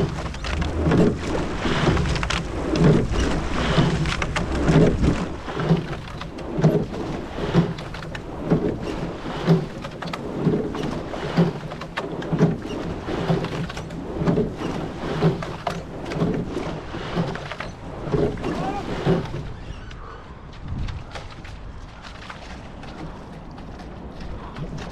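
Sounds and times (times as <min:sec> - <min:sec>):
oars splashing in water: 0:00.0 - 0:24.9
water rushing along hull: 0:00.0 - 0:24.9.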